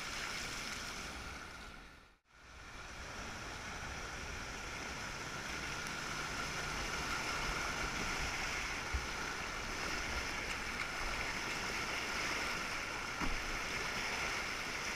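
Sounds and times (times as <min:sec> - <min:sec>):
rushing whitewater: 0:02.4 - 0:14.9.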